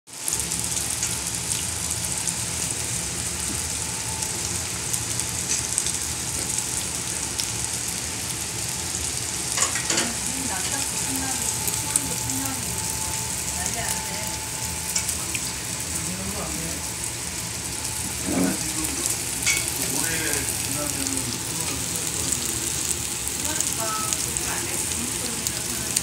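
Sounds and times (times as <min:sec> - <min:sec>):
pork sizzling on grill: 0:00.1 - 0:26.0.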